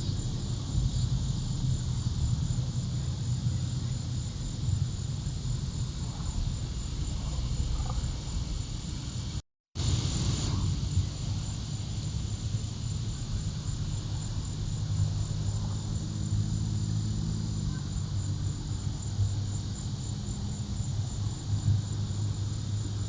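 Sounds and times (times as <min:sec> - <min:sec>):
crickets trilling: 0:00.0 - 0:23.0
faint engine hum: 0:00.0 - 0:23.0
low rumble: 0:00.0 - 0:23.0.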